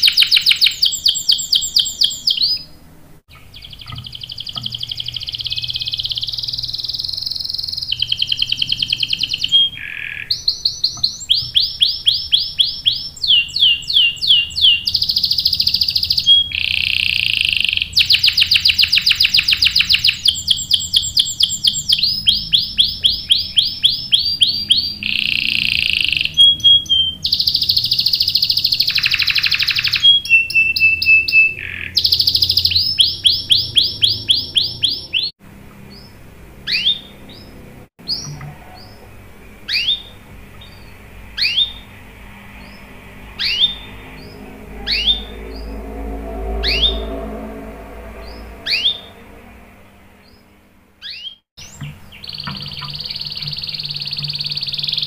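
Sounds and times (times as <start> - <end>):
canary singing rolling trills: 0.0 - 55.0.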